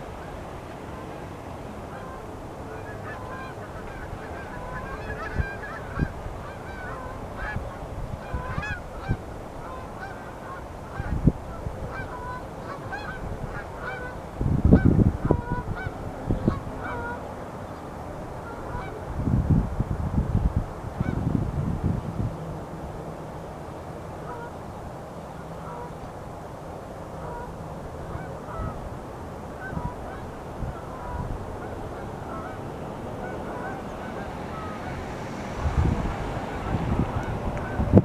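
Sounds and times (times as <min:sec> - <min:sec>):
flock of birds honking: 0:00.0 - 0:19.2, 0:20.9 - 0:21.3, 0:23.6 - 0:26.3, 0:27.0 - 0:38.0.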